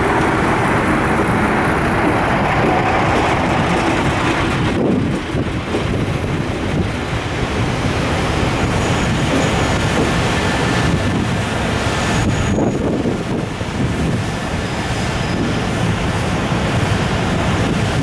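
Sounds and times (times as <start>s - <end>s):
freight train running on track: 0.0s - 18.0s
wind on microphone: 0.0s - 18.0s.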